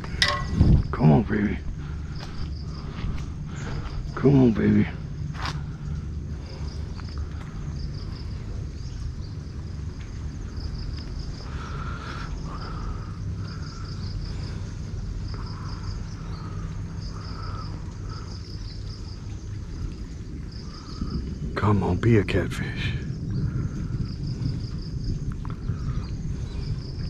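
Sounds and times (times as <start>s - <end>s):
insects chirping: 0.0s - 27.0s
steady low hum: 0.0s - 27.0s.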